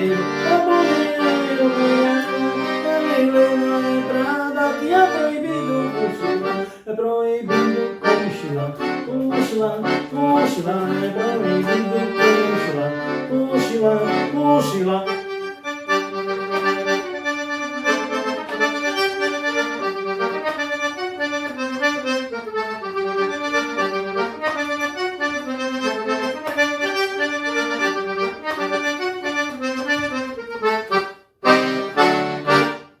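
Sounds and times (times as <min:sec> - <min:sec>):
fast accordion melody: 0:00.0 - 0:33.0.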